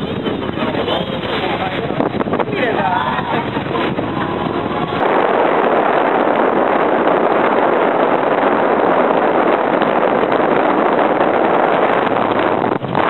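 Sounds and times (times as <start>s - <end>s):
water rushing past boat: 0.0s - 13.0s
wind: 0.0s - 13.0s.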